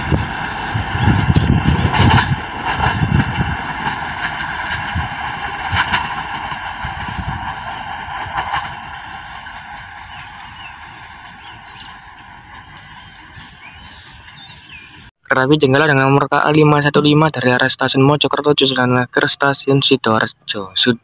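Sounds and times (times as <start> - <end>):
diesel train rumbling: 0.0 - 21.0.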